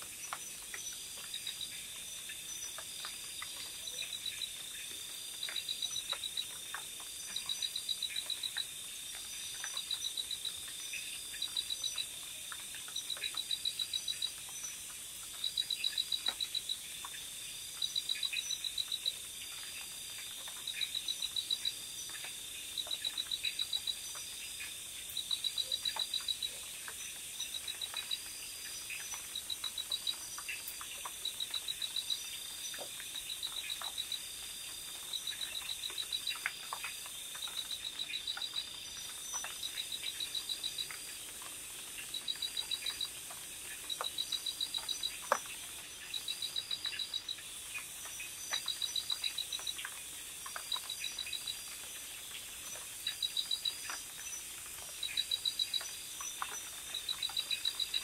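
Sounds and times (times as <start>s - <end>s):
faint ticks: 0.0s - 58.0s
insects chirping: 0.0s - 58.0s.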